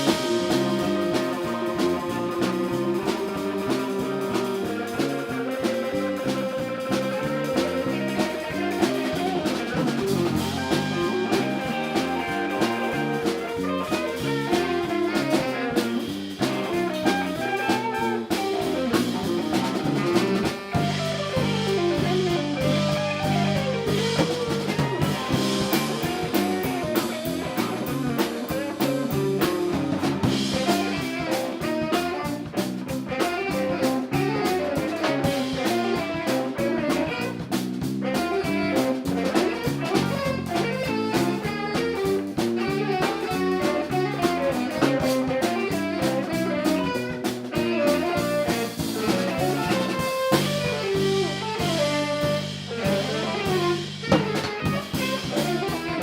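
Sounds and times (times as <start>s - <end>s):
drum kit groove: 0.0s - 56.0s
guitar lines: 0.0s - 56.0s.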